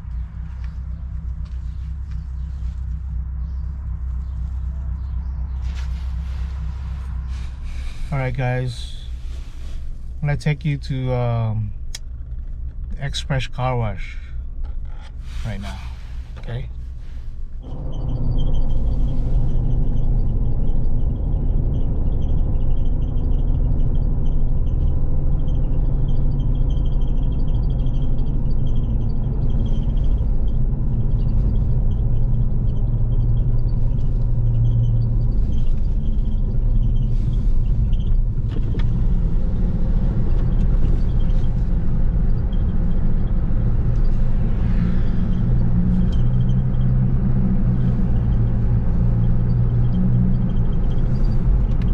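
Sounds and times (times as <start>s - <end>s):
engine rumble: 0.0s - 51.9s
road noise: 0.0s - 51.9s.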